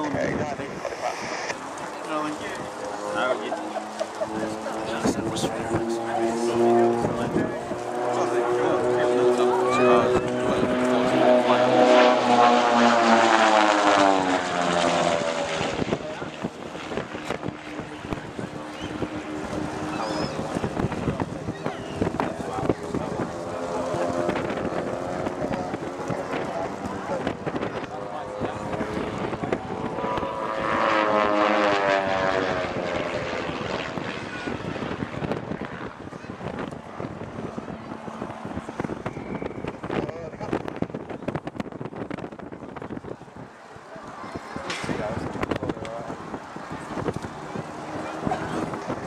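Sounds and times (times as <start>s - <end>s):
propeller aircraft flying past: 0.0s - 49.0s.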